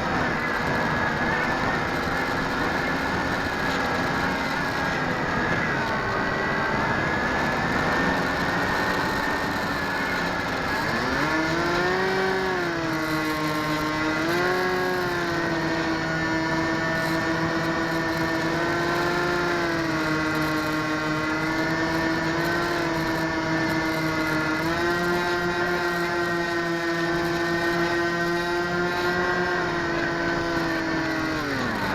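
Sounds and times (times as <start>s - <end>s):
model airplane motor whine: 0.0s - 31.9s.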